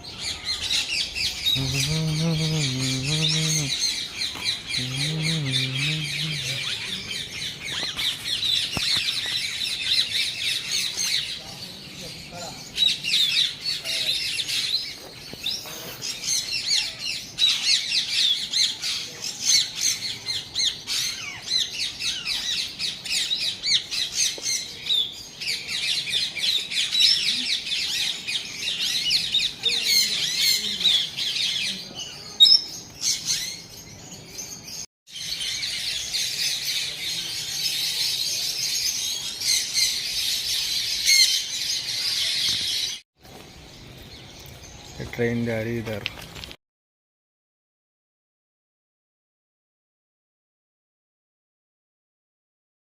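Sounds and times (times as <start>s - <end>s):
birds chirping and squawking: 0.0s - 46.4s.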